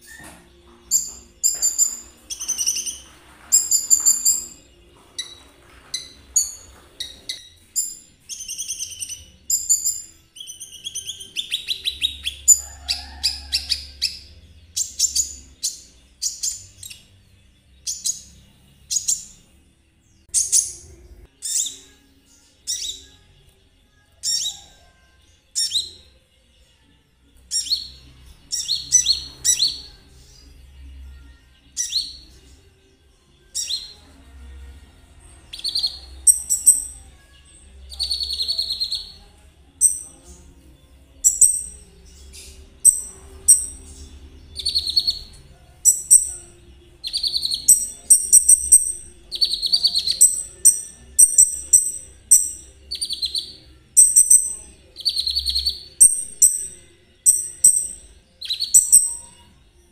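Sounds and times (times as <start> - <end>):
songbird singing: 0.0 - 32.8, 33.4 - 59.9.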